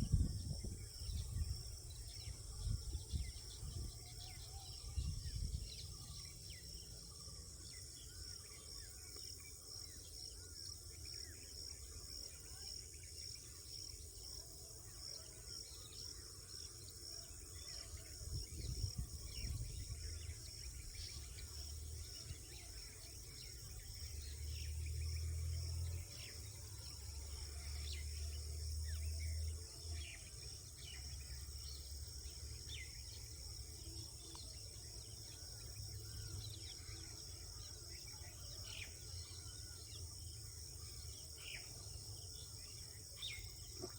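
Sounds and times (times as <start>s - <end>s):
night insects chirping: 0.0s - 43.9s.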